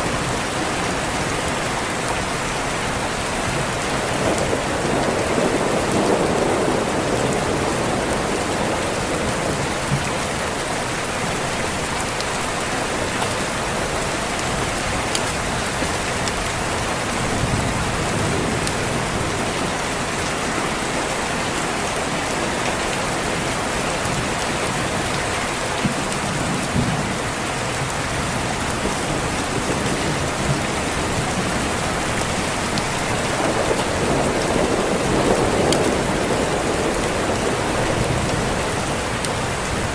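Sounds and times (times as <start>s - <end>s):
rain pattering on a window: 0.0s - 39.9s
distant thunder rumbling: 3.3s - 25.1s, 25.8s - 39.9s.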